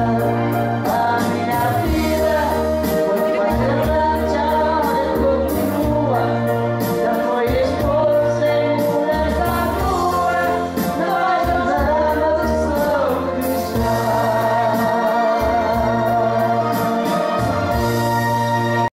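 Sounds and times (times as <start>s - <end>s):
man and woman singing: 0.0s - 17.8s
karaoke backing track: 0.0s - 18.9s.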